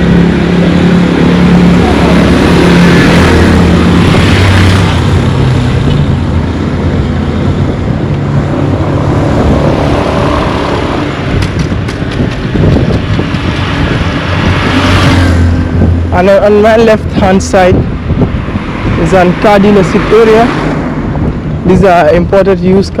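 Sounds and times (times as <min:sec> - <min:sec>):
motor vehicle passing: 0:00.0 - 0:21.7
traffic noise: 0:00.0 - 0:23.0
wind buffeting microphone: 0:00.0 - 0:23.0.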